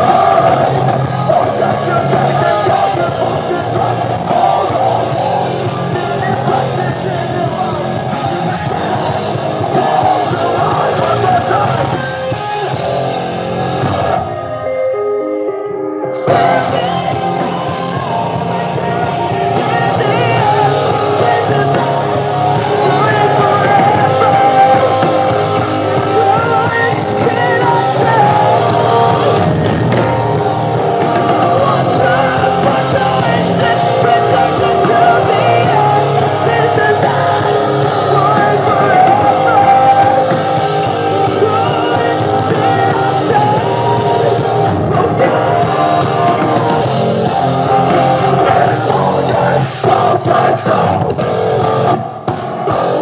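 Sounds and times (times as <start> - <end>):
metal band playing live: 0.0 - 53.0
vocalist singing: 0.0 - 53.0.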